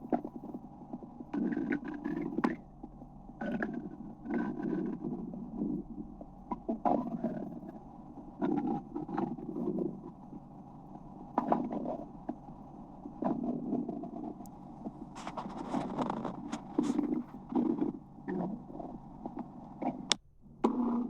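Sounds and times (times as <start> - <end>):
stomach rumbling: 0.0 - 21.0.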